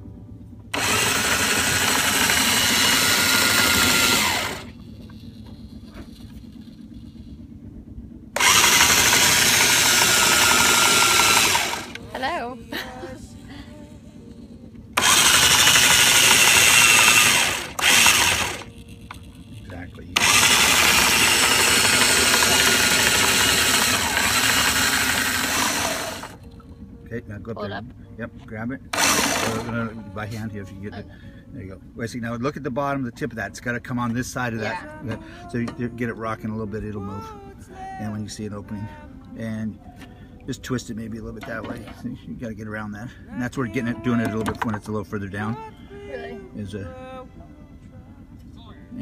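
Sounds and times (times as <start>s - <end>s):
anchor windlass motor whining: 0.0s - 49.0s.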